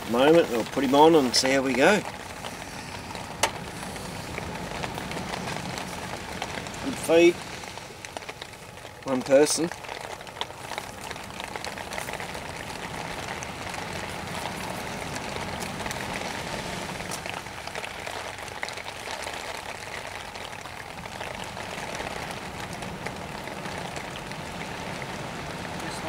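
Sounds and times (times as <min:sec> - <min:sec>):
light rain pattering: 0:00.0 - 0:26.0
meat sizzling over fire: 0:00.0 - 0:26.0.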